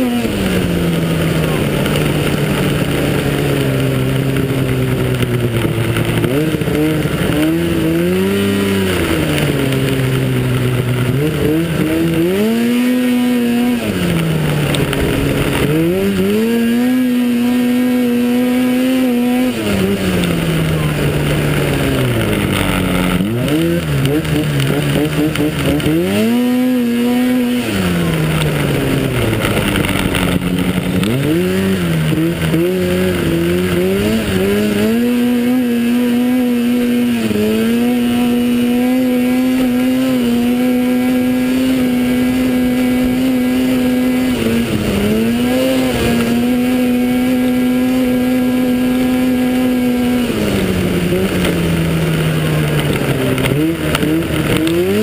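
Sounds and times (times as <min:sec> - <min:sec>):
snowmobile engine revving: 0:00.0 - 0:55.0
wind and track noise: 0:00.0 - 0:55.0.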